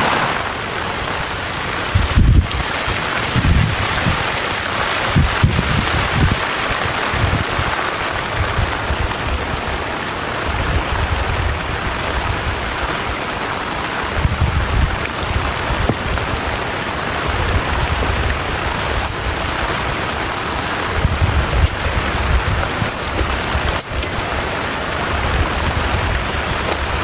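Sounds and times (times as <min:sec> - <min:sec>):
heavy rain pouring: 0:00.0 - 0:27.0
low wind rumble: 0:00.0 - 0:27.0.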